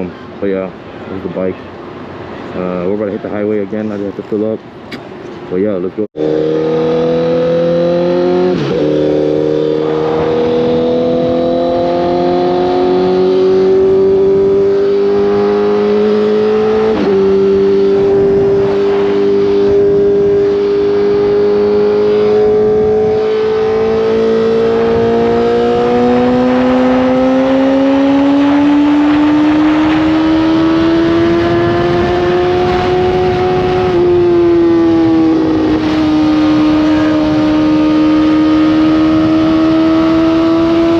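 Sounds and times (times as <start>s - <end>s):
motorcycle engine accelerating: 6.2s - 40.9s.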